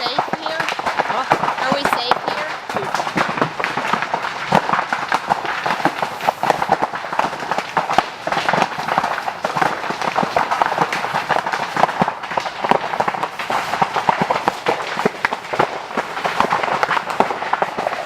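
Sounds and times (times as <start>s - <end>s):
bamboo crackling and popping: 0.0s - 18.0s
roar of flame: 0.0s - 18.0s.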